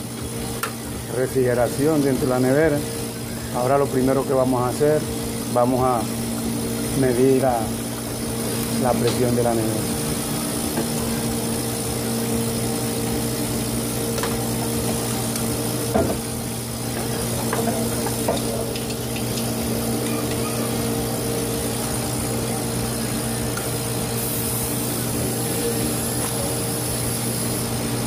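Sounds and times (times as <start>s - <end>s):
refrigeration compressor humming: 0.0s - 28.0s.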